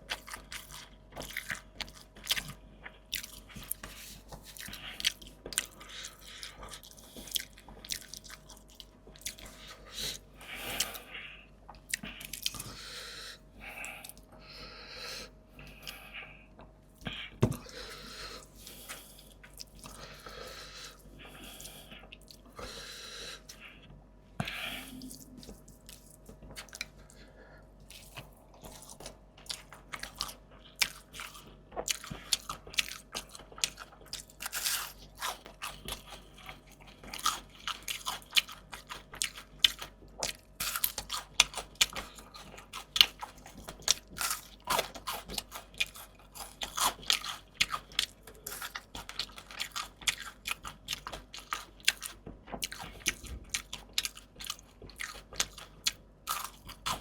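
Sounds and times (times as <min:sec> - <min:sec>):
person chewing crunchy food: 0:00.0 - 0:23.8, 0:24.4 - 0:57.0.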